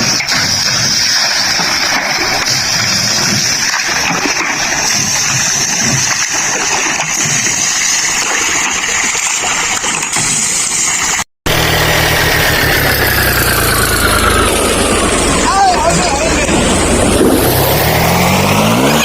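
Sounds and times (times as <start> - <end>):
water splashing and gushing: 0.0 - 19.0.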